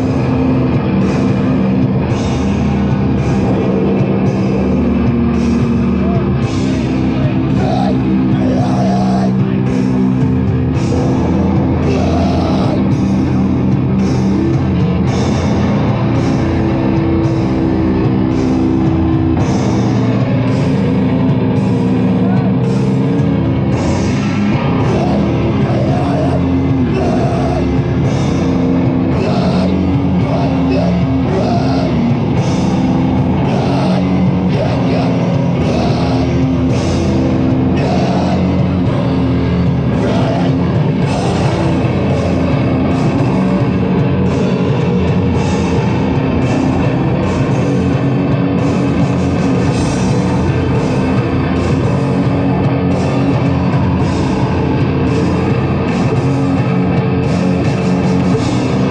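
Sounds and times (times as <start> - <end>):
heavy metal band playing: 0.0 - 58.9.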